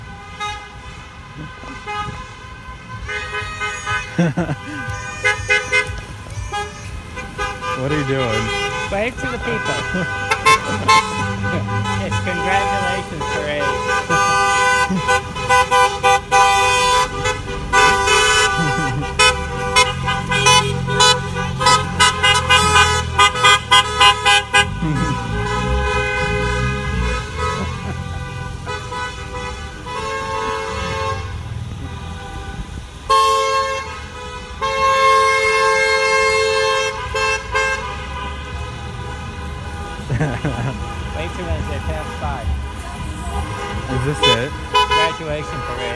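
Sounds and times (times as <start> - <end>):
car horns honking: 0.0 - 45.9
low rumble of engines: 0.0 - 45.9.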